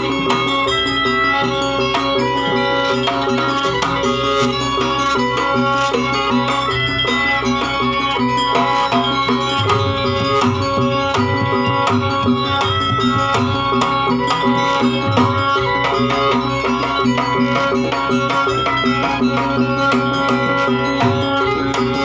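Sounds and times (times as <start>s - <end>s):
gongs and metallophones ringing: 0.0s - 22.0s
hand drums beating: 0.0s - 22.0s.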